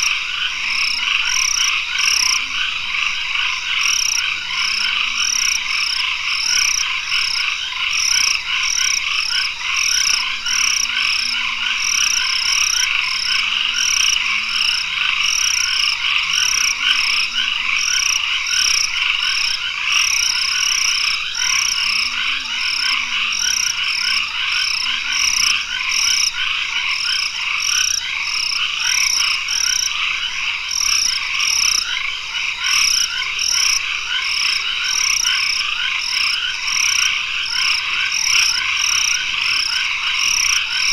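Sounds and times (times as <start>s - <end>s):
frogs calling: 0.0s - 40.9s
high pulsing frog call: 0.0s - 40.9s.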